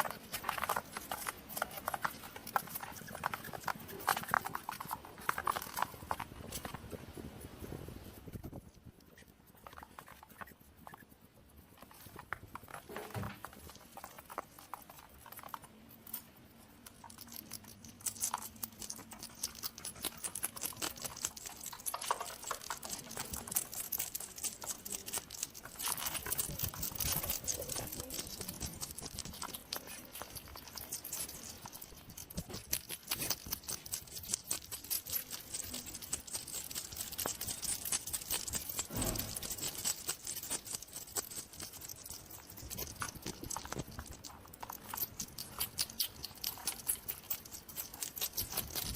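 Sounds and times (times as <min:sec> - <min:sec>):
hedgehog clicks and rustles: 0:00.0 - 0:48.9.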